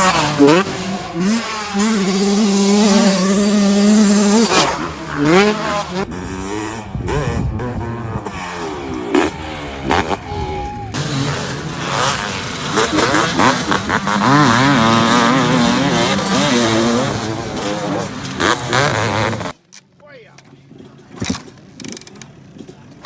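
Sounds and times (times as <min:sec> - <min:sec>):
motocross bike engines revving: 0:00.0 - 0:19.6, 0:20.5 - 0:23.0.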